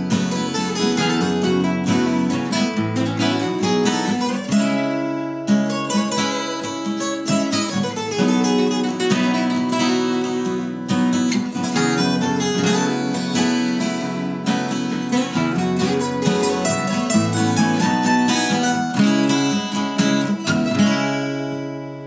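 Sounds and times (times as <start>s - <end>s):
acoustic guitars playing: 0.0s - 22.0s.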